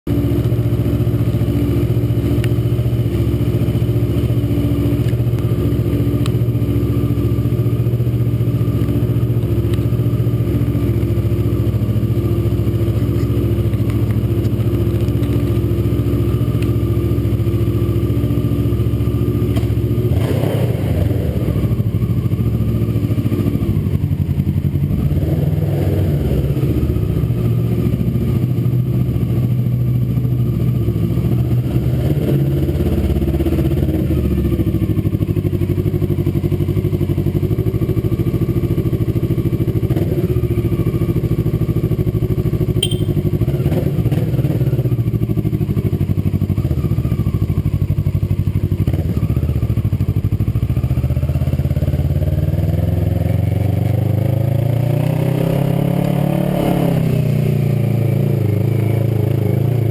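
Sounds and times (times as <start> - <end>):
motorcycle engine idling and pulling away: 0.1 - 59.9.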